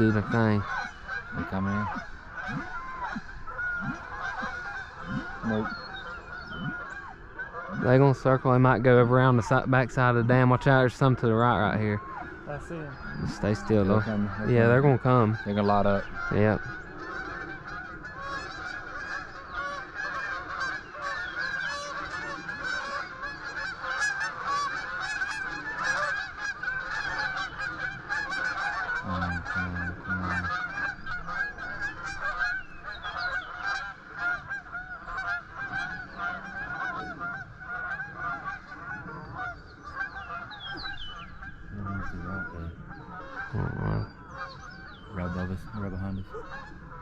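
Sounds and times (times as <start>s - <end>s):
geese honking: 0.0s - 47.0s.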